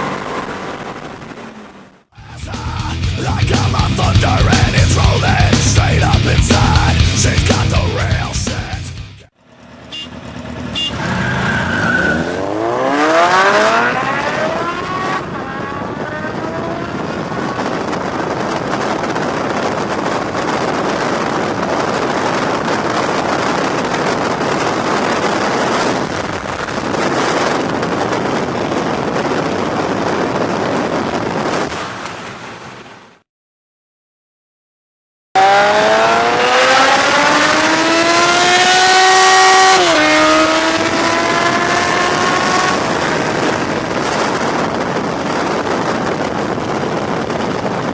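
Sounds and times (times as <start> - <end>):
engines accelerating hard: 0.0 - 28.3, 35.4 - 47.3
road noise at speed: 0.0 - 33.2, 35.4 - 47.9.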